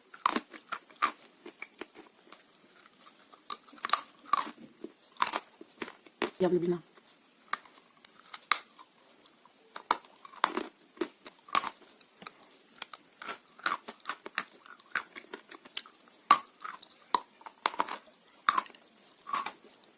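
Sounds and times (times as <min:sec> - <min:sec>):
chewing dry clay crunches: 0:00.0 - 0:06.4, 0:07.0 - 0:19.9.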